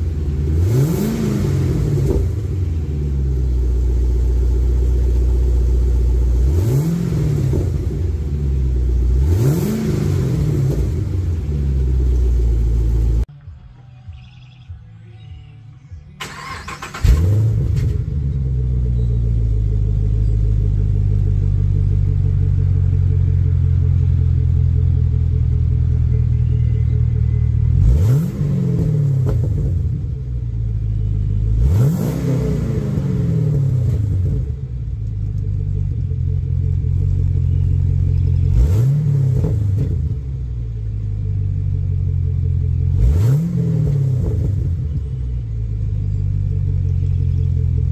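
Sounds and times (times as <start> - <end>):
car engine idling and revving: 0.0 - 47.9.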